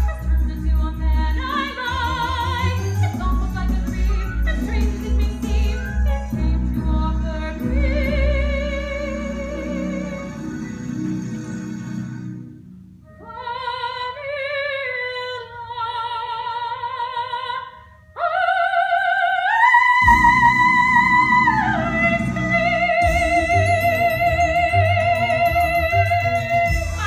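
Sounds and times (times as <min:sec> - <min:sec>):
woman singing operatically: 0:00.0 - 0:10.6, 0:13.2 - 0:27.0
musical accompaniment: 0:00.0 - 0:16.1, 0:19.2 - 0:27.0.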